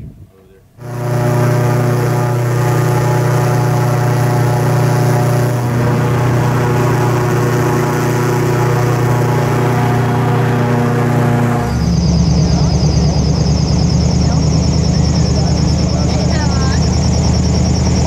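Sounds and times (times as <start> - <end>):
airboat engine and propeller drone: 0.6 - 18.0.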